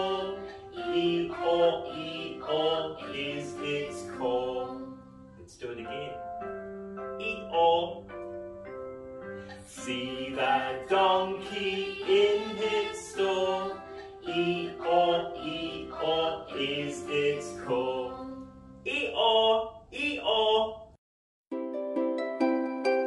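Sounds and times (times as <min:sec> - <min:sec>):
children's song singing: 0:00.0 - 0:06.2, 0:07.1 - 0:08.1, 0:09.4 - 0:20.8
instrumental accompaniment: 0:00.0 - 0:18.8, 0:21.5 - 0:23.0.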